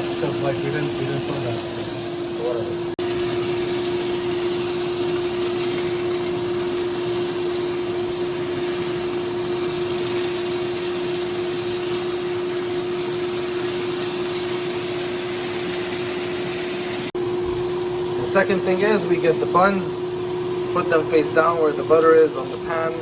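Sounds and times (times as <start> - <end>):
fan whirring with hum: 0.0 - 23.0.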